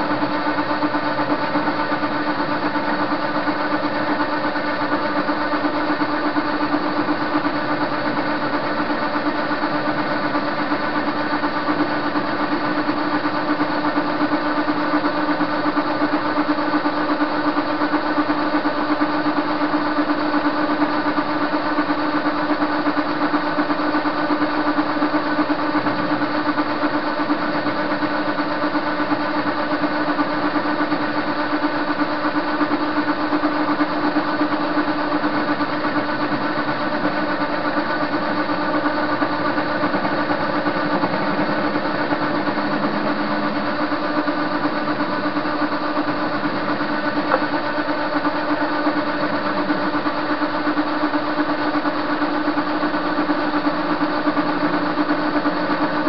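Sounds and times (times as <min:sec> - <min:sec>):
lathe motor humming: 0:00.0 - 0:56.0.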